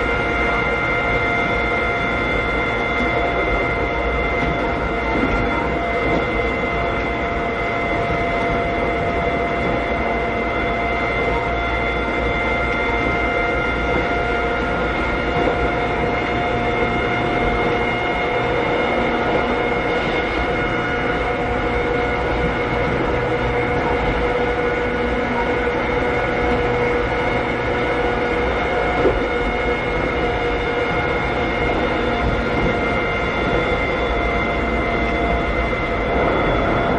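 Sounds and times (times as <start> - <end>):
train traction motor whine: 0.0 - 36.9
train wheel rumble: 0.0 - 36.9.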